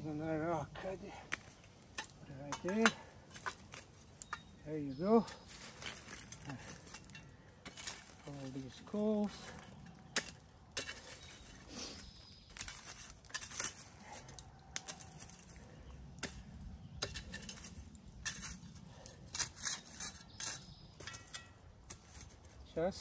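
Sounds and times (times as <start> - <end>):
coals and rocks clinking and scraping: 0.0 - 23.0.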